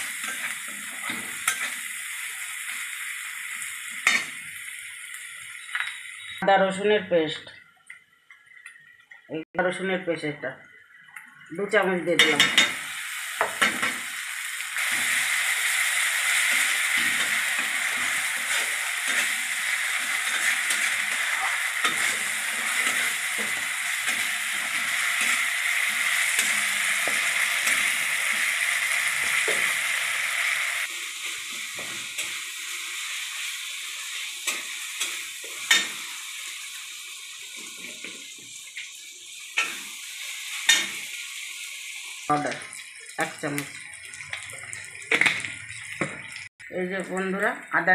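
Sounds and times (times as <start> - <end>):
onion sizzling in oil: 0.0 - 6.9, 10.9 - 47.9.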